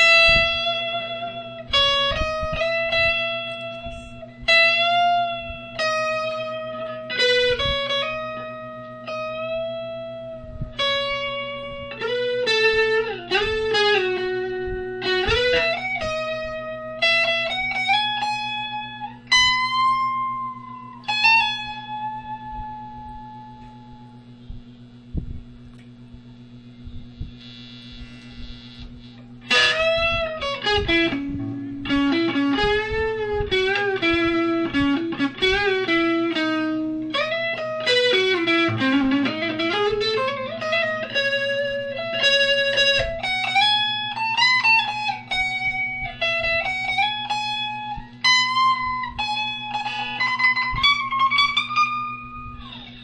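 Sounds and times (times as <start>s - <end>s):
electric guitar lead melody: 0.0s - 24.3s, 27.8s - 53.0s
low amplifier hum: 0.0s - 53.0s.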